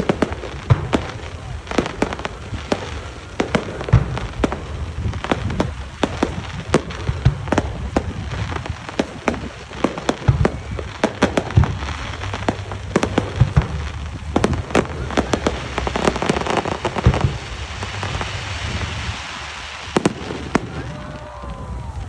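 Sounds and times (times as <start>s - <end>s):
deep fireworks booms: 0.0s - 22.0s
fireworks bangs and crackles: 0.0s - 22.0s.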